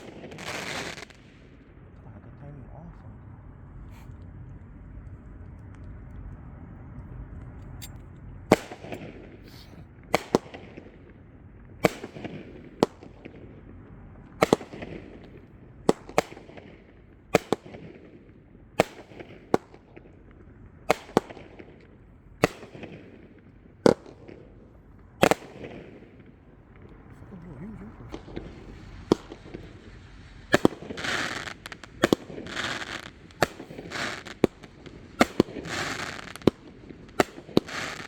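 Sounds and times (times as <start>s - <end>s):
fireworks bangs echoing: 0.0s - 1.9s, 8.5s - 38.0s.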